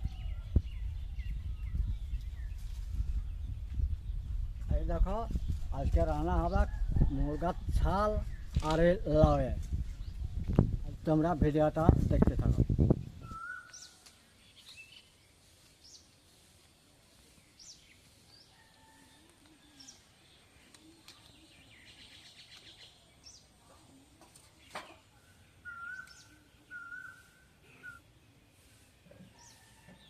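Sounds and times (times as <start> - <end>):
birds chirping faintly: 0.0 - 30.0.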